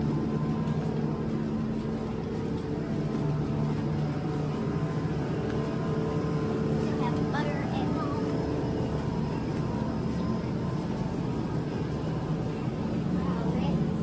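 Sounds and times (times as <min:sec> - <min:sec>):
refrigerated display cases humming: 0:00.0 - 0:14.0.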